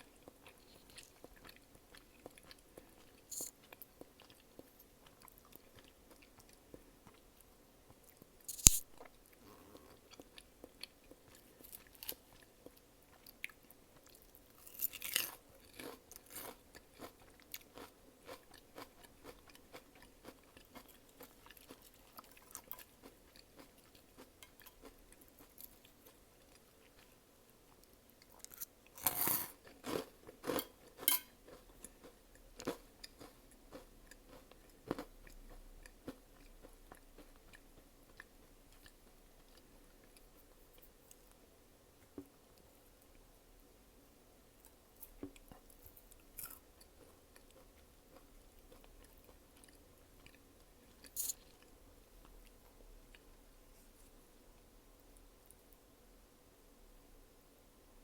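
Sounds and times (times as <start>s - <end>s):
crunchy chewing of food: 0.0s - 41.4s, 44.6s - 54.3s.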